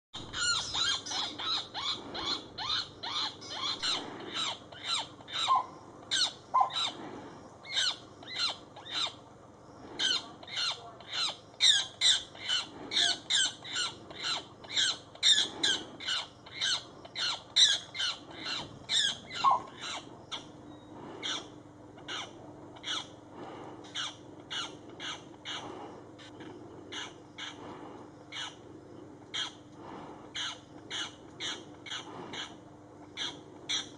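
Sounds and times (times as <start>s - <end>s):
bird distress calls: 0.2s - 28.7s, 29.3s - 33.9s.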